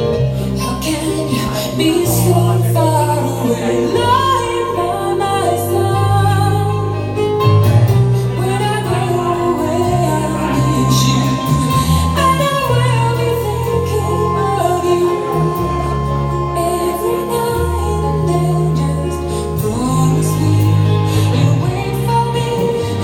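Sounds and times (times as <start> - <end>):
woman singing over sound system: 0.6 - 23.0.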